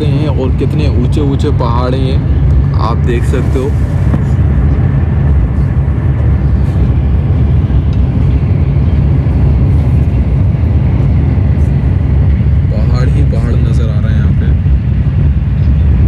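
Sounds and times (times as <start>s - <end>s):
train rumble inside passenger car: 0.0s - 16.0s.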